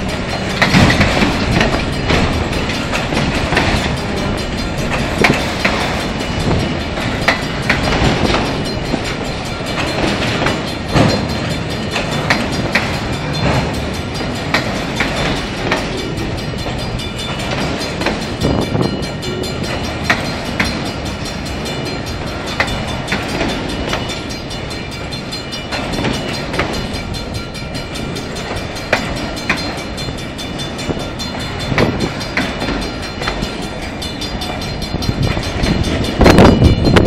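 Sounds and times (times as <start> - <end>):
sharp clacks and clanks: 0.0 - 37.0
steel wheels rumbling on rail: 0.0 - 37.0.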